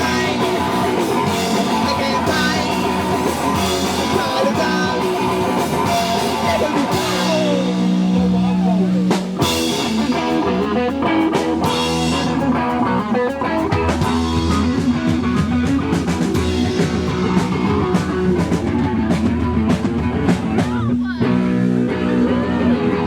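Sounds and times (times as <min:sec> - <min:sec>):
punk band playing live: 0:00.0 - 0:23.0.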